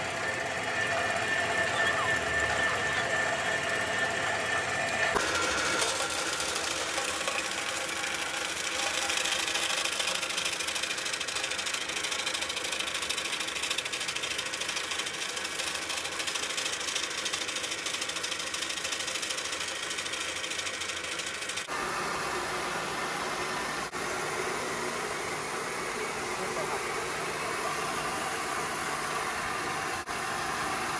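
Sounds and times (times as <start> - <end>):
rice mill humming and rattling: 0.0 - 30.9.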